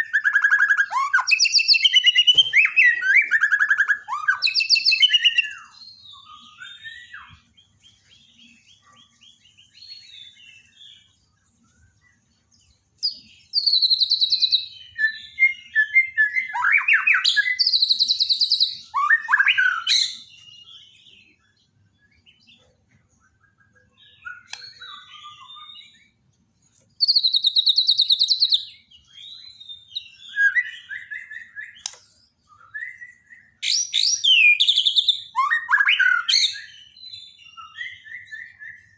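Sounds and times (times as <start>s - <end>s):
soft bird twittering: 0.0s - 38.9s
songbird whistles and trills: 0.0s - 38.9s.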